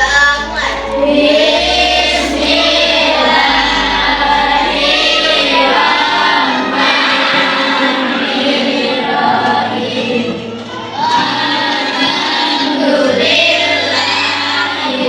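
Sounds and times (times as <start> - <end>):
group singing in unison: 0.0 - 15.0.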